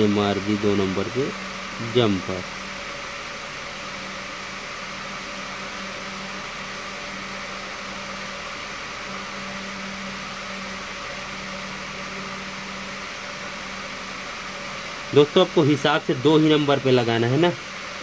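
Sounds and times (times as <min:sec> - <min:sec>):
electric fan hum: 0:00.0 - 0:18.0.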